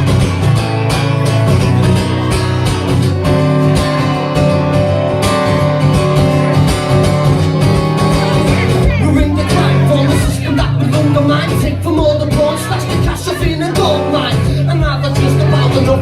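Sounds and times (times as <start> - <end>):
live band playing: 0.0 - 16.0
strummed guitar: 0.0 - 16.0.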